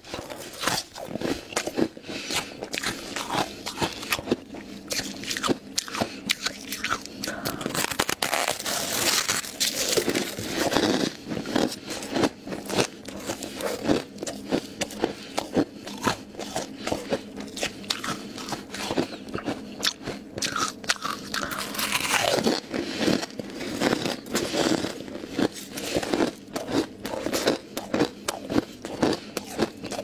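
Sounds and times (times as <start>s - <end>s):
ice crunching while chewed: 0.1s - 30.0s.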